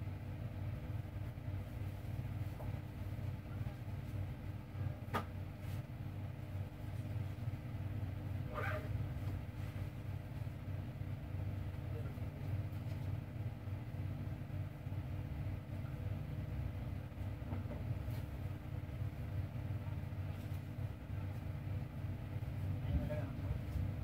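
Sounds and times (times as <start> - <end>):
faint constant hum: 0.0 - 24.0
low background rumble: 0.0 - 24.0.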